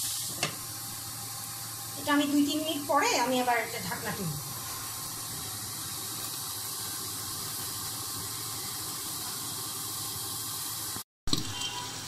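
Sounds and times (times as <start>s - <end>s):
shrimp and onions sizzling: 0.0s - 12.0s.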